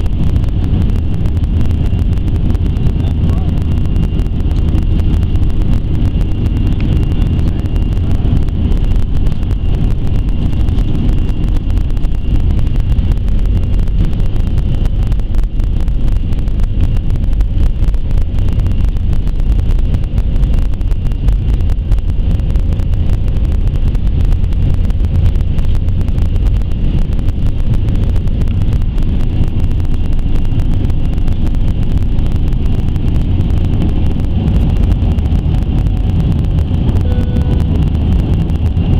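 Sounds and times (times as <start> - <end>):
jet engines heard from cabin: 0.0 - 38.9.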